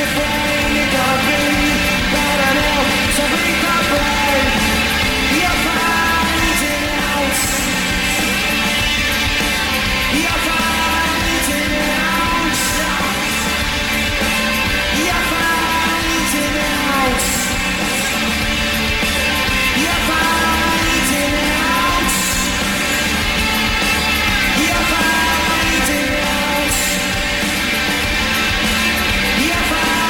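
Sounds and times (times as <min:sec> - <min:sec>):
man singing: 0:00.0 - 0:18.5, 0:19.2 - 0:30.0
rock band playing: 0:00.0 - 0:30.0.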